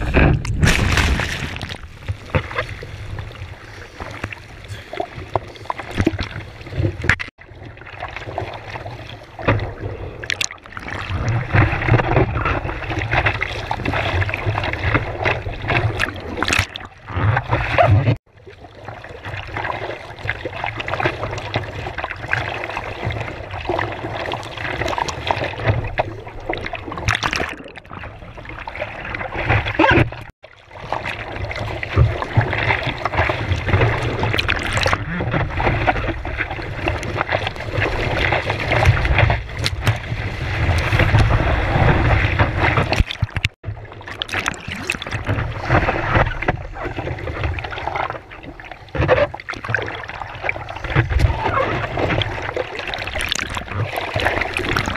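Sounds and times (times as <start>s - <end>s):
water splashing against surfboard: 0.0s - 18.2s, 18.8s - 54.9s.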